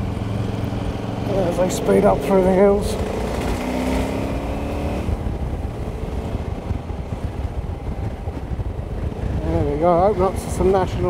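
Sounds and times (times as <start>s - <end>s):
motorcycle engine accelerating: 0.0s - 11.0s
wind buffeting microphone: 0.0s - 11.0s.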